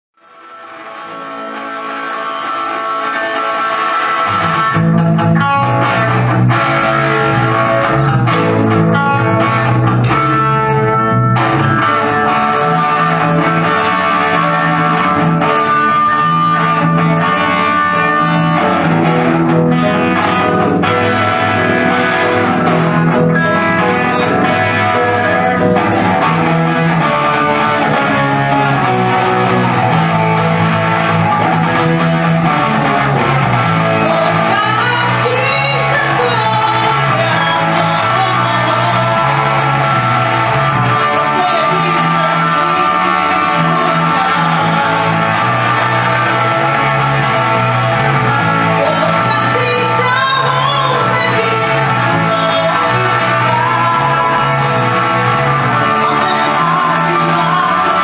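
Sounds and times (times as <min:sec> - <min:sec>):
electric guitar: 0:00.1 - 0:58.0
keyboards: 0:00.3 - 0:58.0
live band playing: 0:00.4 - 0:58.0
bass: 0:01.2 - 0:58.0.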